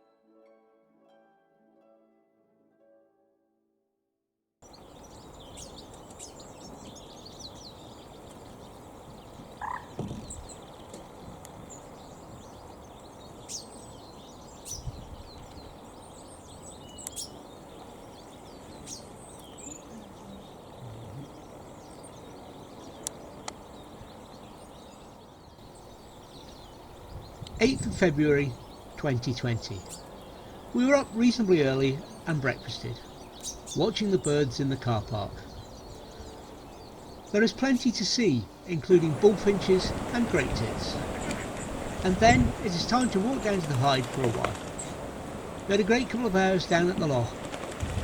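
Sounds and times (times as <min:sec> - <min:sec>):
bird chirps and calls: 0:04.6 - 0:47.4
steady outdoor hiss: 0:04.6 - 0:48.0.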